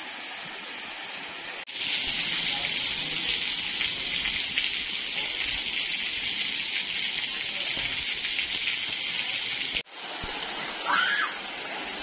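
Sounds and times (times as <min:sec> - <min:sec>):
rain on leaves and water: 0:00.0 - 0:12.0.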